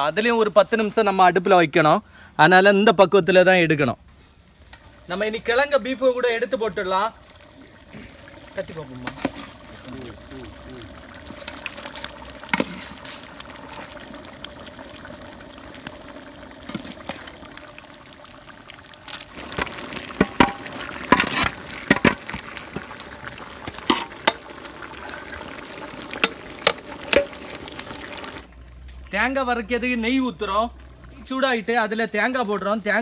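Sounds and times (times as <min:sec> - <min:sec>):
steady hiss: 0:00.0 - 0:33.0
curry bubbling in a pot: 0:04.8 - 0:32.9.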